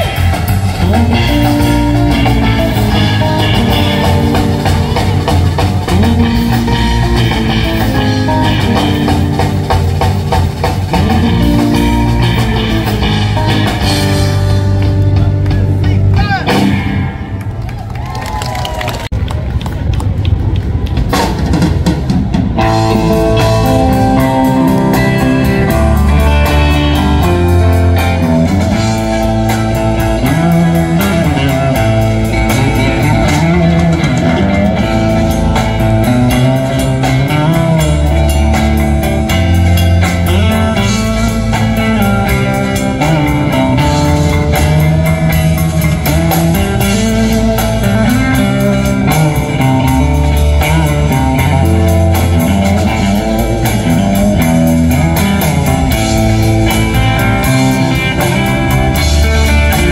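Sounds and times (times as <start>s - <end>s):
lead guitar bending notes: 0.0s - 17.7s, 20.3s - 59.9s
rock band playing: 0.0s - 59.9s.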